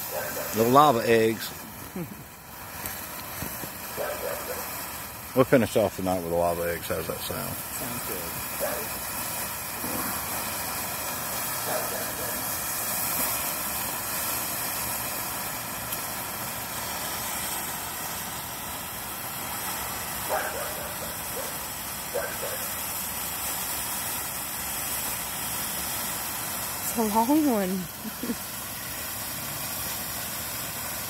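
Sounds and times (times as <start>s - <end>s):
firework fountain hissing: 0.0s - 31.0s.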